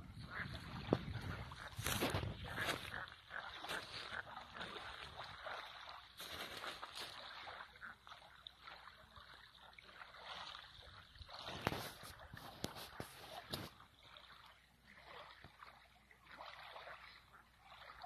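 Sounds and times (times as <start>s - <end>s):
small waves lapping: 0.0s - 18.0s
water splash: 0.2s - 18.0s.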